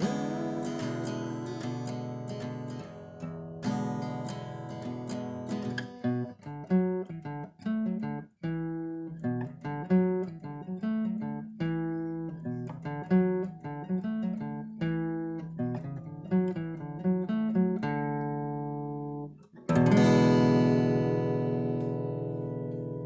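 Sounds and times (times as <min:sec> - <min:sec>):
acoustic guitar picked chords: 0:00.0 - 0:23.0.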